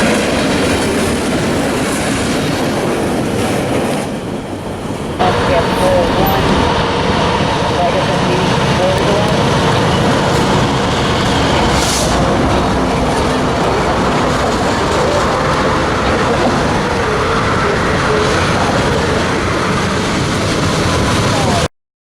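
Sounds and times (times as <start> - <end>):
train wheels rumbling on rails: 0.0 - 21.7.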